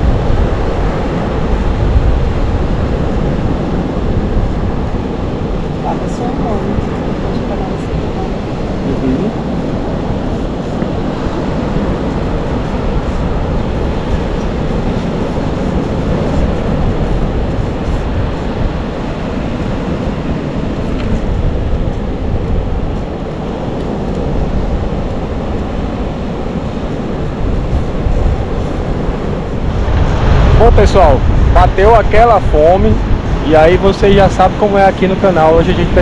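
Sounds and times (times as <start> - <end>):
surf: 0.0 - 36.0
wind buffeting microphone: 0.0 - 36.0.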